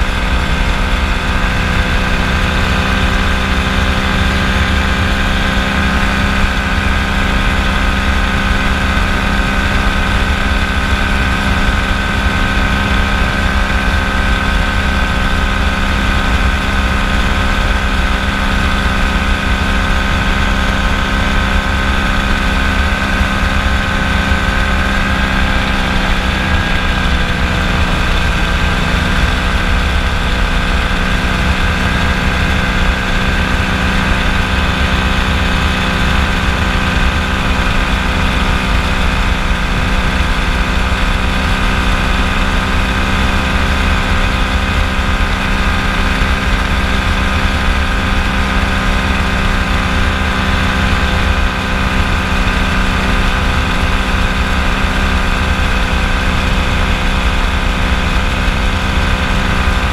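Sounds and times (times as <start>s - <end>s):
ultralight engine and propeller drone: 0.0s - 59.9s.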